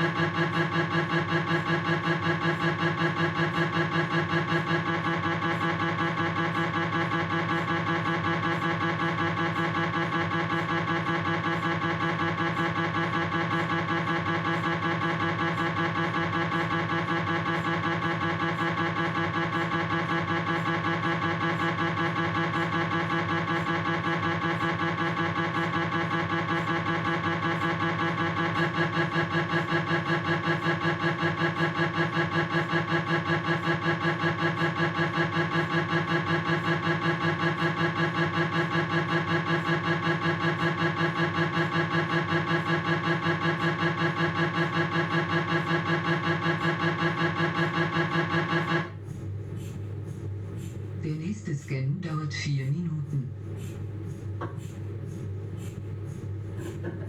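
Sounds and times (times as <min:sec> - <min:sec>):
mri scanner pulsing tone: 0:00.0 - 0:57.0.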